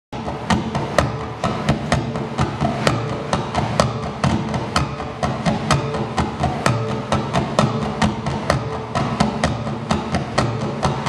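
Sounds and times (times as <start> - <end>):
drums: 0.2 - 11.0
electric bass: 0.2 - 11.0.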